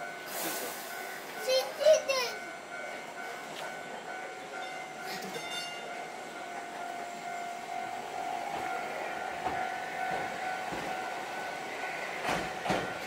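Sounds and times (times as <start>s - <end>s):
tram electric whine: 0.0s - 13.0s
tram wheels clacking on track: 0.0s - 13.0s.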